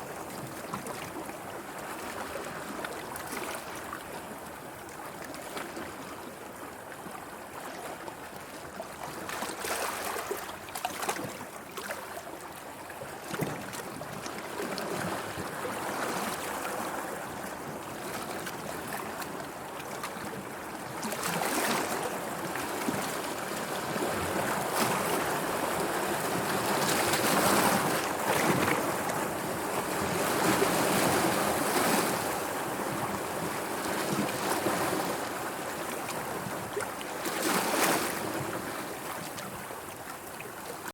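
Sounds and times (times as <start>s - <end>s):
sea waves on shore: 7.1s - 12.6s, 13.2s - 40.9s.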